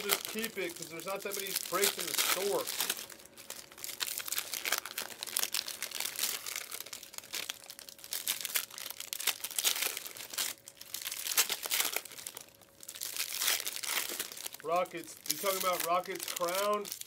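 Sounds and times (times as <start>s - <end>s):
faint steady hum: 0.0s - 17.0s
plastic packaging crinkling: 0.0s - 17.0s.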